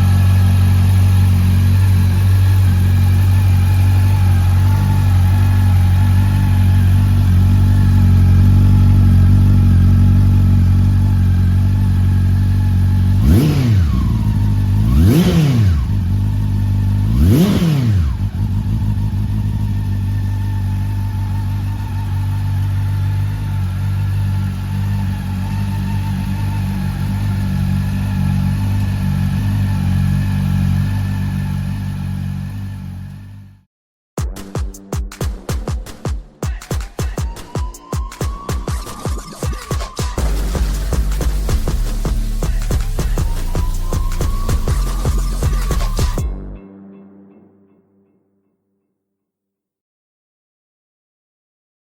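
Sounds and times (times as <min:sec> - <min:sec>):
motorcycle engine idling and revving: 0:00.0 - 0:33.7, 0:35.1 - 0:46.5.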